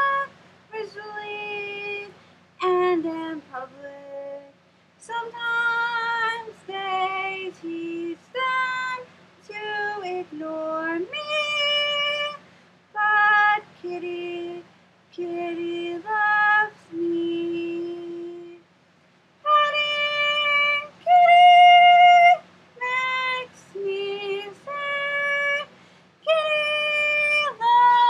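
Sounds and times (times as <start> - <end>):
woman singing a cappella: 0.0 - 18.7, 19.4 - 28.0.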